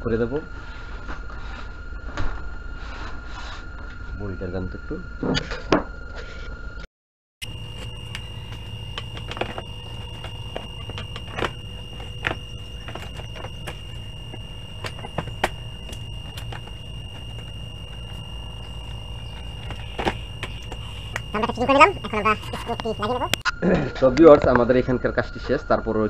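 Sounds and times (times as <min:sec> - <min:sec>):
low hum: 0:00.0 - 0:26.0
steady high-pitched tone: 0:00.0 - 0:26.0.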